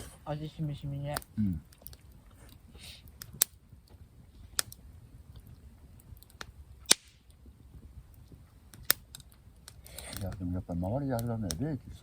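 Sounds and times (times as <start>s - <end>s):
wood fire popping: 0.0s - 12.0s.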